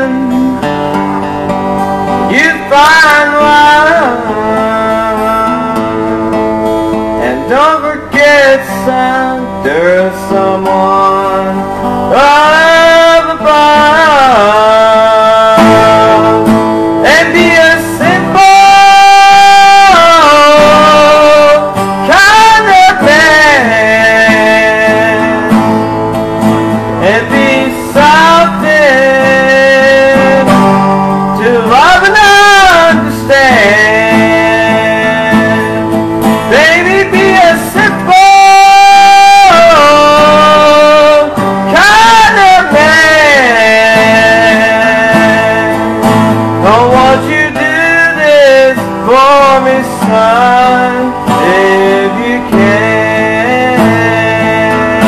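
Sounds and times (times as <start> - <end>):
acoustic guitar: 0.0 - 55.0
man singing: 0.0 - 55.0.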